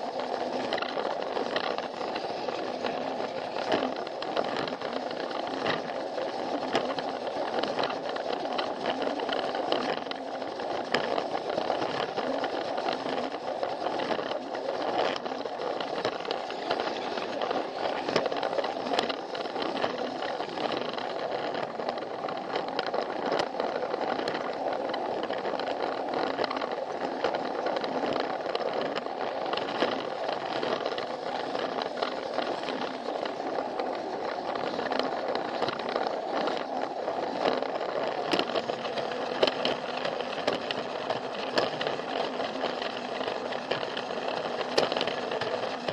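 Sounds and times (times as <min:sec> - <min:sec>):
toy train motor whirring: 0:00.0 - 0:45.9
wheels rattling and clicking: 0:00.0 - 0:45.9.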